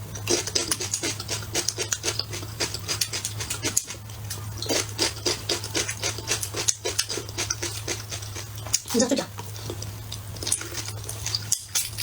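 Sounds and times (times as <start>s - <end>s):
low steady hum: 0.0s - 12.0s
chewing and lip-smacking: 0.1s - 12.0s.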